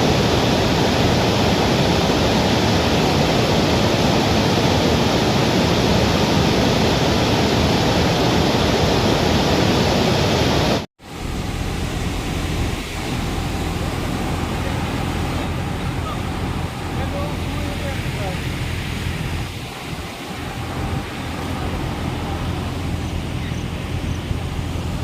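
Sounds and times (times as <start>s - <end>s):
water rushing from dam gates: 0.0s - 25.0s.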